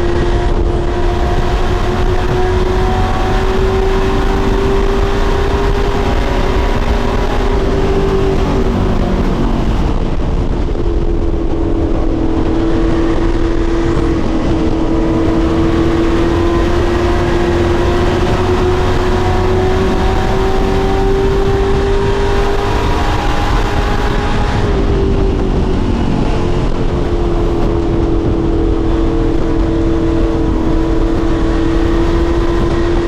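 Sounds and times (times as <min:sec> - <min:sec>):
racing truck engines: 0:00.0 - 0:33.0.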